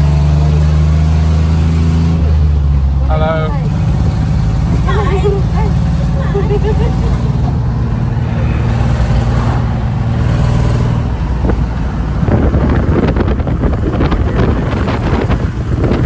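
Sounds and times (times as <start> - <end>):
van engine running: 0.0 - 16.0
wind buffeting microphone: 2.2 - 16.0.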